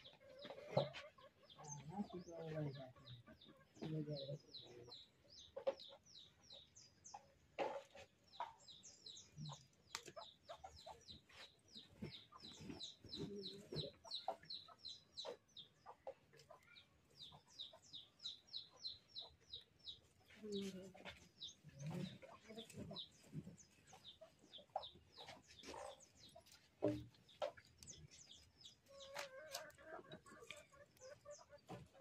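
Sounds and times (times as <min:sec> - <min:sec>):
chickens peeping and clucking: 0:00.0 - 0:32.0.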